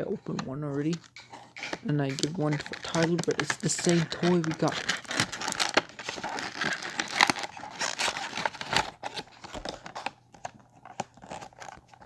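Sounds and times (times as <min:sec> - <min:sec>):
toy packaging crinkling: 0:00.0 - 0:12.0.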